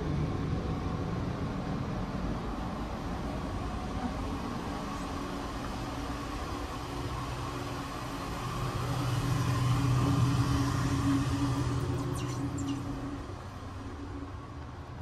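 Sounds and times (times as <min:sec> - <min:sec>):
train machinery humming: 0:01.4 - 0:15.0.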